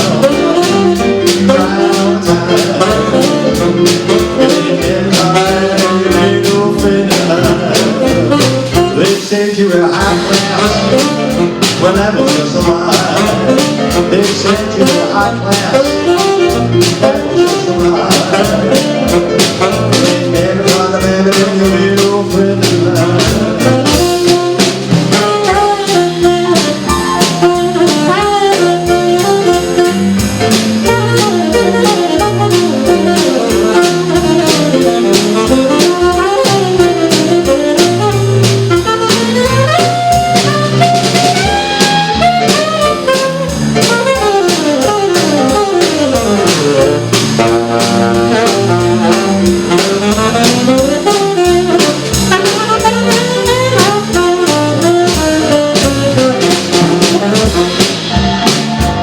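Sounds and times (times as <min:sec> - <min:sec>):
saxophone solo: 0:00.0 - 0:09.4, 0:10.0 - 0:59.0
drum kit beat: 0:00.0 - 0:59.0.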